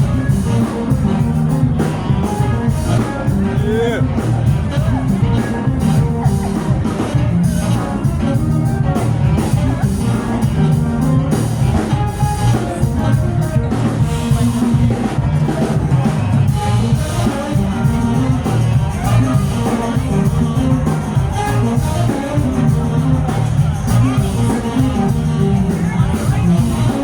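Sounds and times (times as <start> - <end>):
bass line: 0.0 - 27.0
drum kit beat: 0.0 - 27.0
guitar: 0.0 - 27.0.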